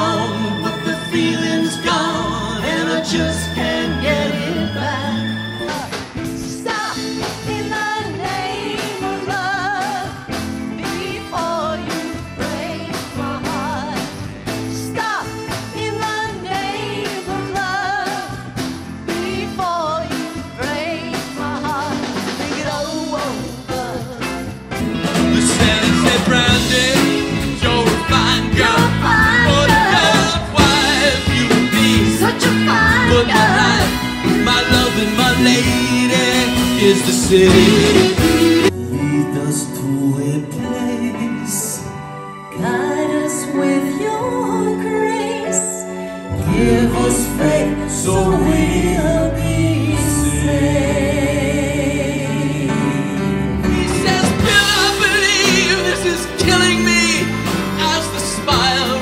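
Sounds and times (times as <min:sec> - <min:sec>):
people singing: 0:00.0 - 0:24.3, 0:24.9 - 0:42.0, 0:42.6 - 0:59.0
drums: 0:00.0 - 0:40.6, 0:46.4 - 0:59.0
bass: 0:00.0 - 0:59.0
guitar: 0:00.0 - 0:59.0
keyboards: 0:00.0 - 0:59.0.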